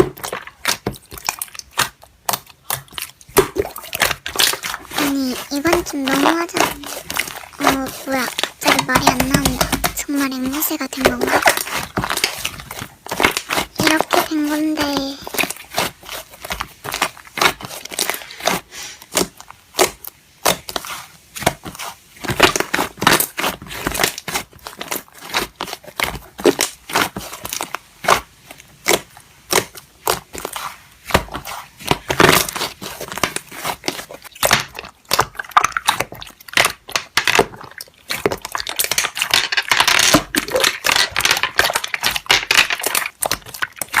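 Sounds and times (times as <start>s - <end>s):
slime squishing with crackles and pops: 0.0s - 44.0s.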